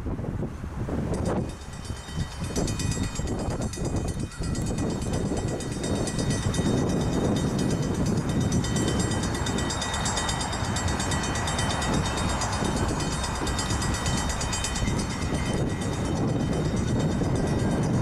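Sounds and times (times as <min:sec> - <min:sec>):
diesel locomotive engine rumbling: 0:00.6 - 0:18.0.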